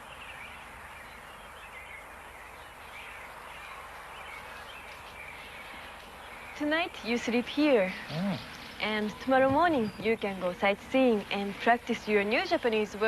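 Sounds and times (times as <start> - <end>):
soft steady hiss: 0.0 - 13.0.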